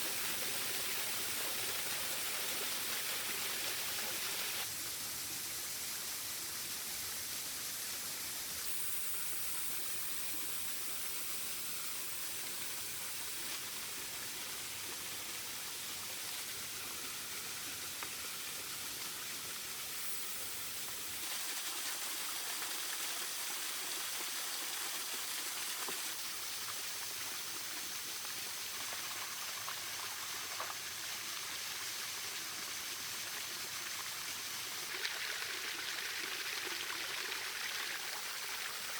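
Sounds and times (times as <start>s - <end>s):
small waterfall rushing: 0.0s - 38.9s.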